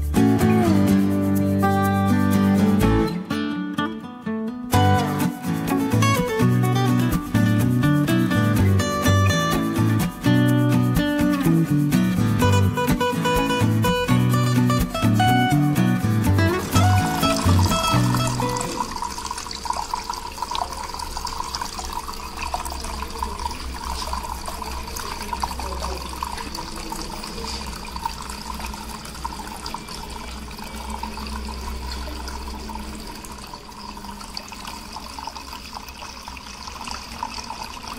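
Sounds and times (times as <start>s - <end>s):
water trickling and splashing: 4.8s - 37.9s.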